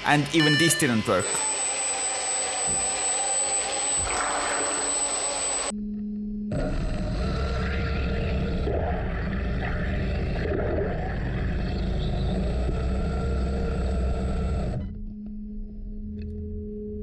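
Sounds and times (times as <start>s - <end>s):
motor hum: 0.0s - 16.7s.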